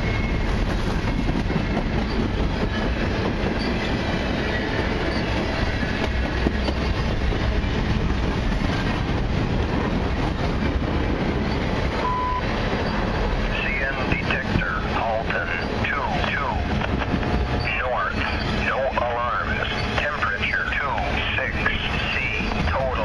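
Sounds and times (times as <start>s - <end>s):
steel wheels rolling on rails: 0.0s - 23.0s.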